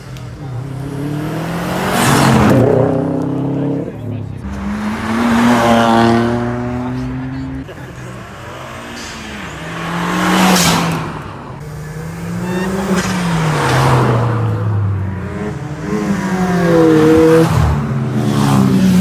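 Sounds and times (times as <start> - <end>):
cars accelerating past: 0.0 - 19.0.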